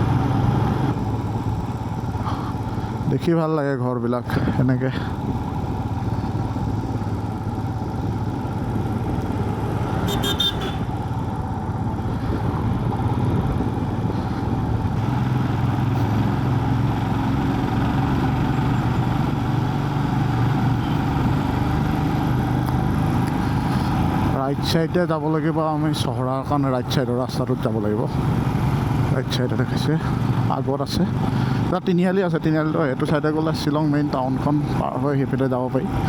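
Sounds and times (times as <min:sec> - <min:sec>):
motorcycle engine running: 0:00.0 - 0:03.3, 0:04.2 - 0:36.0
road noise: 0:00.0 - 0:36.0.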